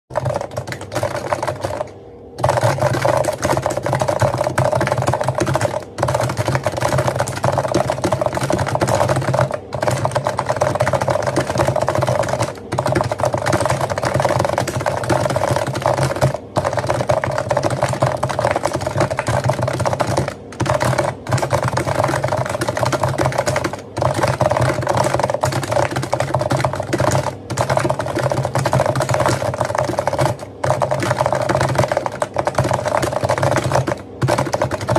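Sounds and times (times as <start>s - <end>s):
fast keyboard typing: 0.1s - 34.9s.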